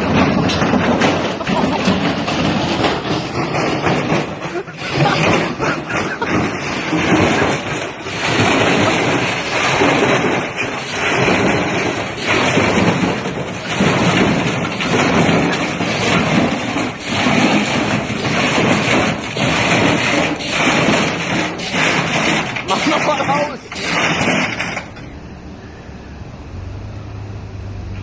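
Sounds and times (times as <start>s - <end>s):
washing machine clattering rumble: 0.0s - 25.4s.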